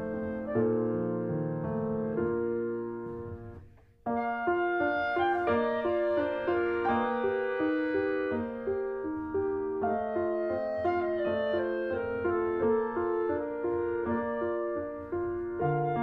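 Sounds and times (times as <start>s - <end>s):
calm piano music: 0.0s - 16.0s.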